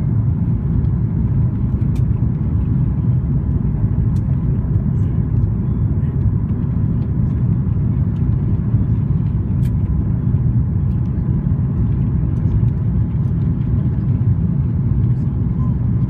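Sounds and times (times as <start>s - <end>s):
engines rumbling: 0.0s - 16.0s.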